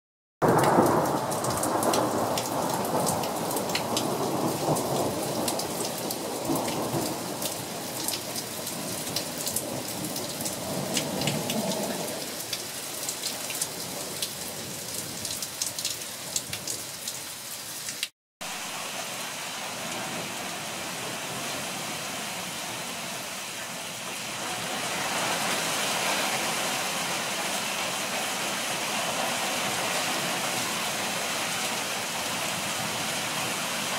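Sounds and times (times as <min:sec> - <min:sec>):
heavy rain downpour: 0:00.4 - 0:33.9.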